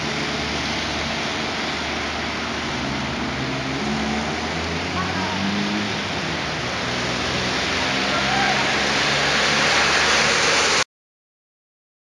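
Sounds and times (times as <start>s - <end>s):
heavy rain pouring: 0.0s - 10.9s.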